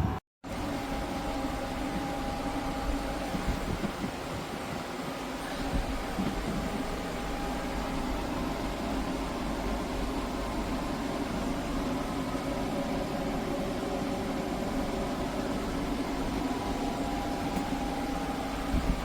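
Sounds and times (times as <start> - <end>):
air conditioner fan rush and hum: 0.0 - 19.0.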